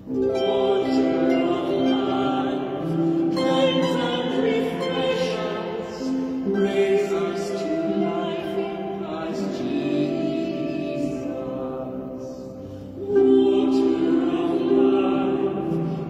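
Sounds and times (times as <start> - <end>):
harp: 0.0 - 16.0.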